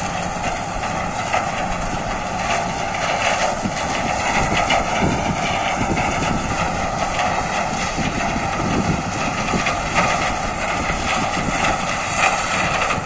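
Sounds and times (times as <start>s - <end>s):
harvester machinery running: 0.0s - 13.0s
wind buffeting microphone: 0.0s - 13.0s.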